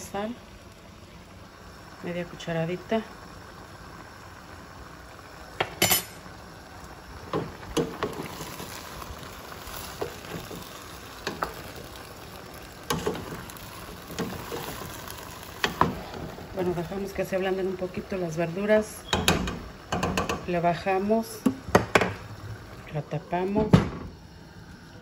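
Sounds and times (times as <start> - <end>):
food sizzling: 0.0 - 25.0.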